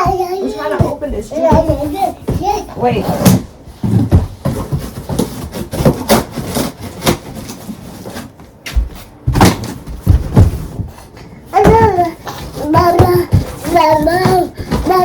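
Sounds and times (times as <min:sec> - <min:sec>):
cardboard box knocks and scraping: 0:00.0 - 0:15.0.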